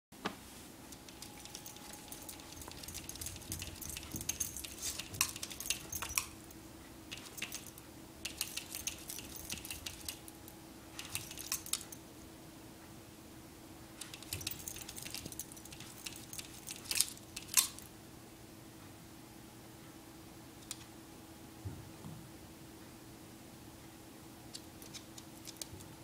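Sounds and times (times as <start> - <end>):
faint steady hum: 0.2 - 26.0.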